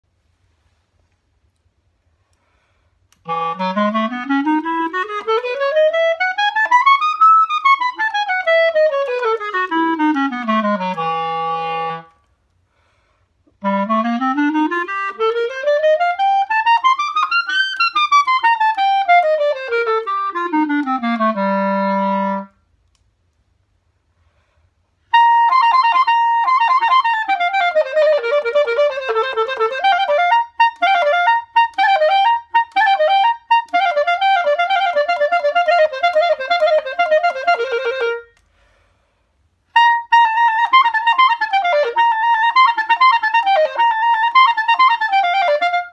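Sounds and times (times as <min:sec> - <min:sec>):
solo clarinet playing: 0:03.1 - 0:12.4, 0:13.5 - 0:22.7, 0:25.0 - 0:38.4, 0:39.7 - 0:45.9.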